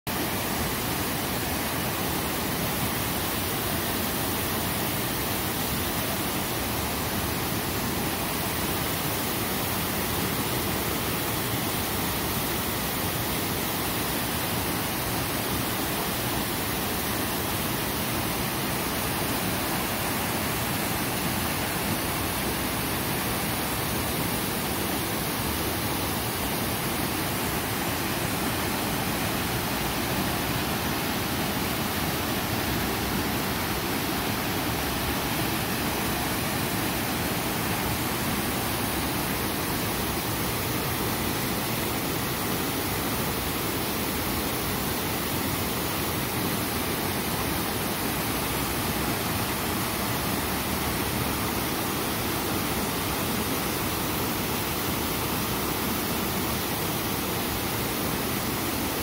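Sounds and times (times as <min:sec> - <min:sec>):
waterfall rushing over rocks: 0:00.1 - 0:59.0.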